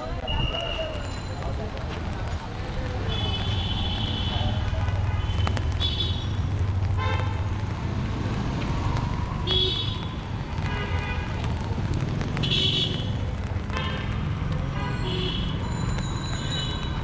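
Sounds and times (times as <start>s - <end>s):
low rumble of engines: 1.0s - 14.9s.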